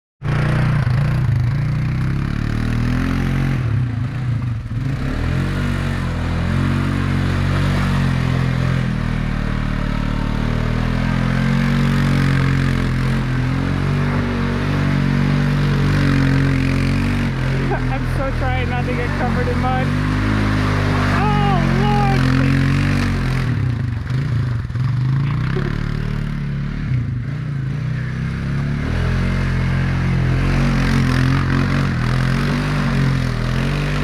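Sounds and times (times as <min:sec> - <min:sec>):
vehicle engine running hard: 0:00.2 - 0:34.0.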